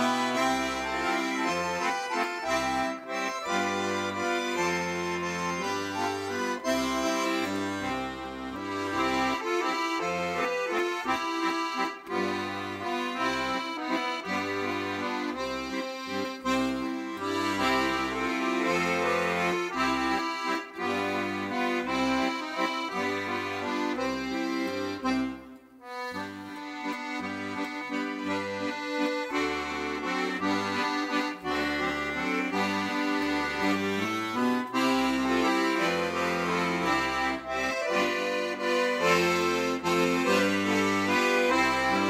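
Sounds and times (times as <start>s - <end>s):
accordion music: 0.0s - 42.0s.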